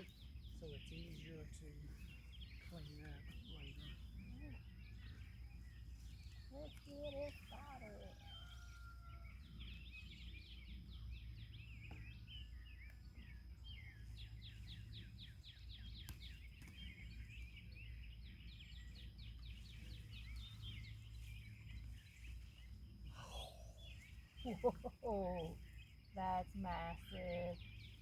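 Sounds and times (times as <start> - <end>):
low outdoor rumble: 0.0 - 28.0
songbirds chirping: 0.0 - 28.0.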